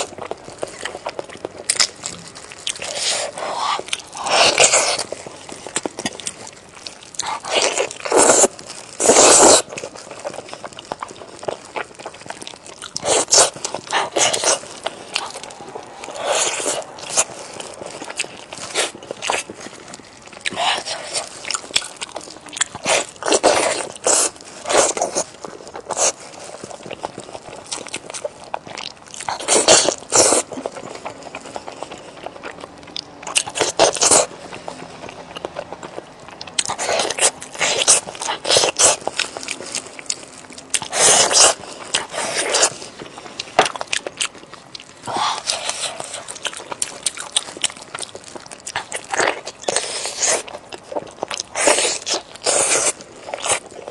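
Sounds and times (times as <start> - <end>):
person biting and chewing: 0.0 - 53.9.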